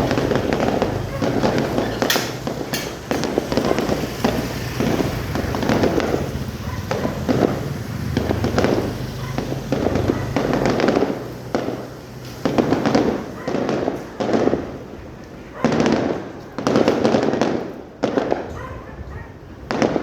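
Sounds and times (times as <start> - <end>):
firework shells booming: 0.0 - 18.6, 19.6 - 20.0
fireworks crackling: 0.0 - 18.6, 19.4 - 20.0.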